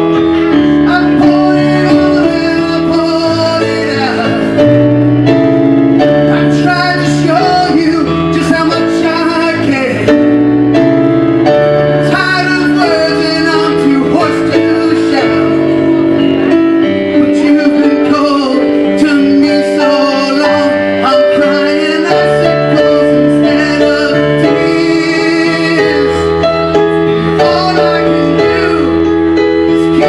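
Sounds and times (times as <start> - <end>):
man singing slow song: 0.0 - 5.0, 6.1 - 10.3, 12.0 - 30.0
electronic keyboard chords: 0.0 - 30.0.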